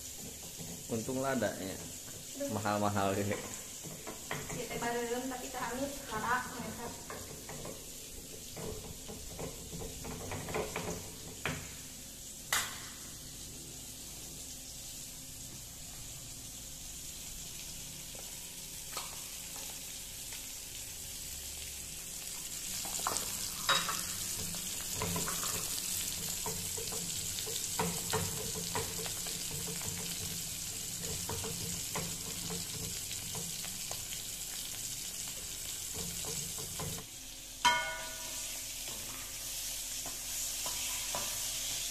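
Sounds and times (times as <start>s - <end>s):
fish sizzling in oil: 0.0s - 41.9s.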